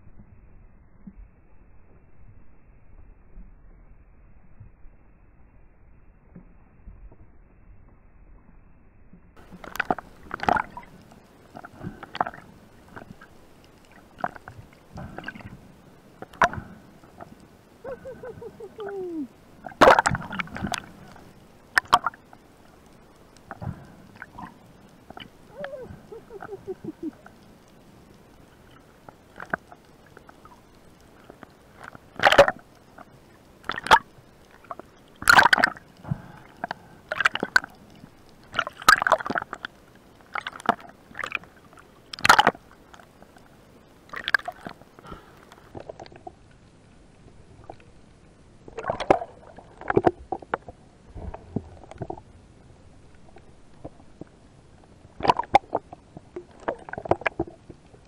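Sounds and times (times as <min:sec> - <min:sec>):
water sloshing underwater: 0:05.9 - 0:58.0.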